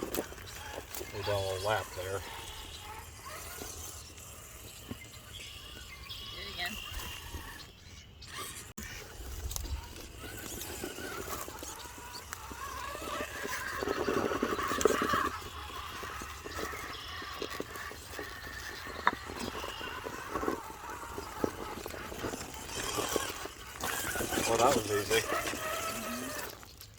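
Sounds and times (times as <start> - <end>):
toy car motor and gears whining: 0.0 - 26.9.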